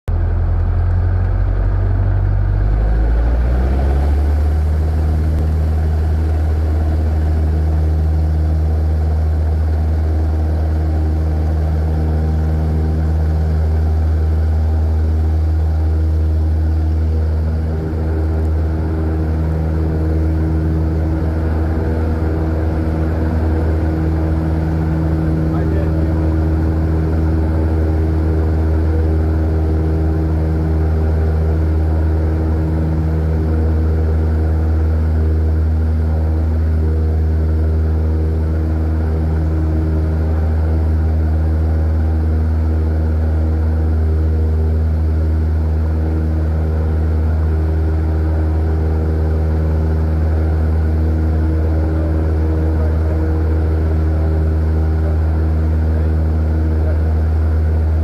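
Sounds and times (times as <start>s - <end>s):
airplane engine drone from cabin: 0.1s - 58.0s.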